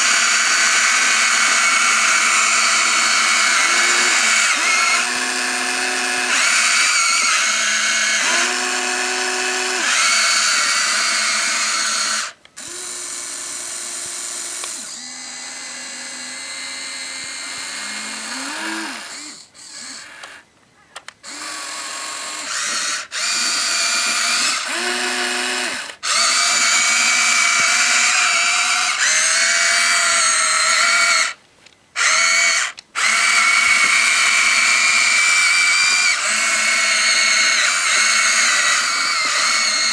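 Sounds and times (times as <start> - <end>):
small electric motors whining: 0.0 - 31.4, 32.0 - 39.9.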